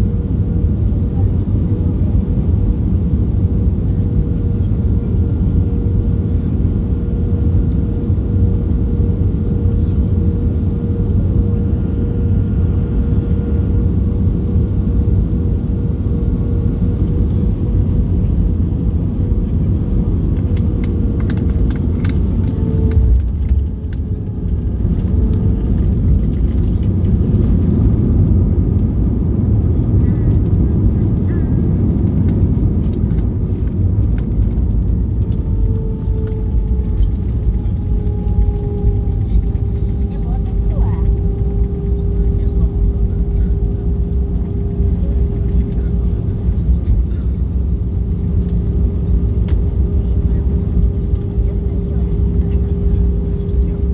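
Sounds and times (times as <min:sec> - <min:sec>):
jet engines droning: 0:00.0 - 0:53.9.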